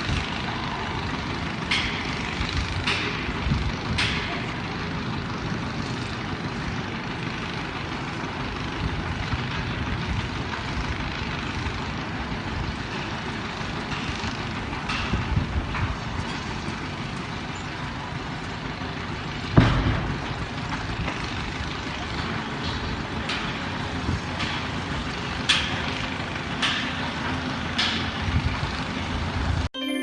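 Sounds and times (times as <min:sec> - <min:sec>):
heavy machinery rumbling: 0:00.0 - 0:29.7.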